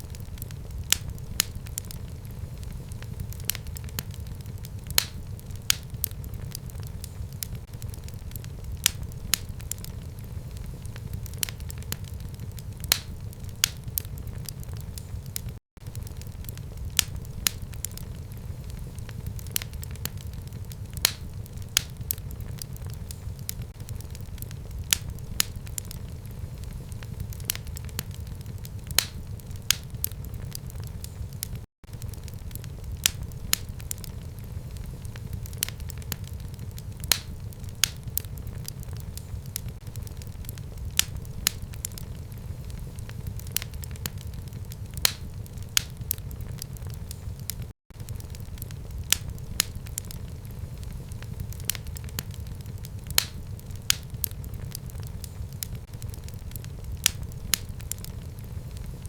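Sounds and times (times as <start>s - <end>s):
fire crackling and popping: 0.0s - 59.0s
fire rumbling: 0.0s - 59.0s.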